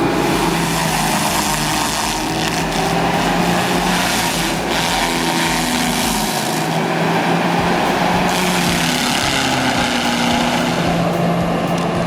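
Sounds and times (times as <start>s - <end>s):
heavy forestry machine running: 0.0s - 12.0s.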